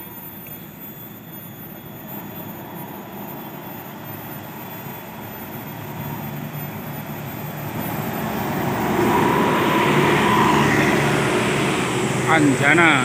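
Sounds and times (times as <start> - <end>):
diesel coach engine drone: 0.0 - 13.0.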